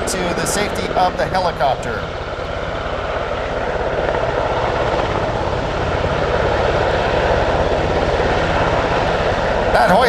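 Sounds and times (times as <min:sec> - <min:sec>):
helicopter rotor beating: 0:00.0 - 0:10.0.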